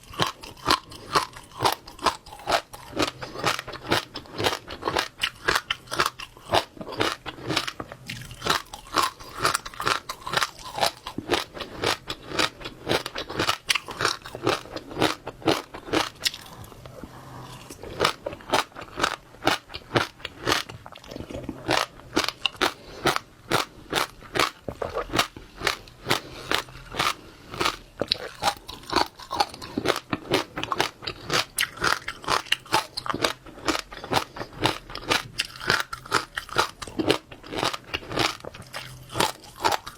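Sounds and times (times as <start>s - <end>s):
chewing with crunches and pops: 0.0s - 39.9s.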